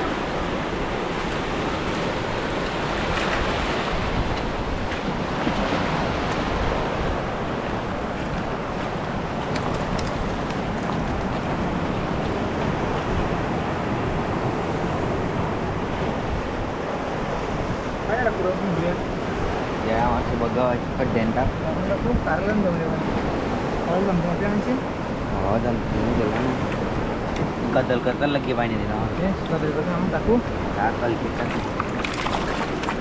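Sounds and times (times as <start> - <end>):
surf washing on rocky shore: 0.0 - 33.0
wind rumbling on microphone: 0.0 - 33.0.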